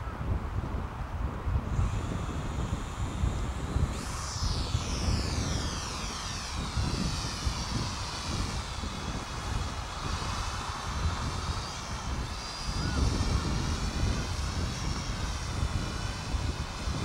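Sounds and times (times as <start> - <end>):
toy drone propellers whining: 1.5 - 17.0.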